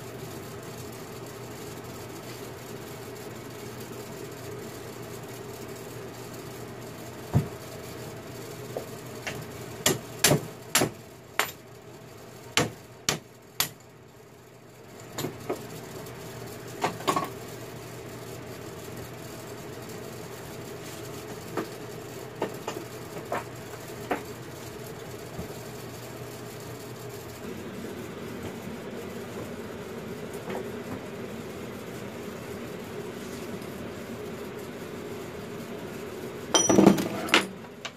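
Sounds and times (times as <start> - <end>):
steady background hum: 0.0 - 37.9.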